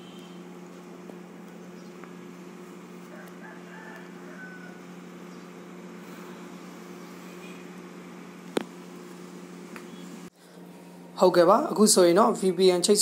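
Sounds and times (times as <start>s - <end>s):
low electrical hum with hiss: 0.0s - 13.0s.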